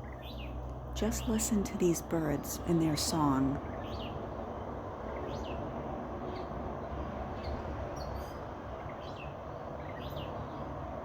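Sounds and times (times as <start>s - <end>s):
low outdoor hum: 0.0s - 11.0s
songbirds chirping: 0.0s - 11.0s.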